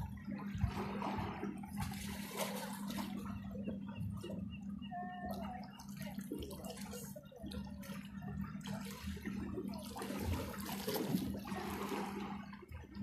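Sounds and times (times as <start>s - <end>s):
steady low hum: 0.0s - 13.0s
water splashing from swimming: 0.0s - 13.0s.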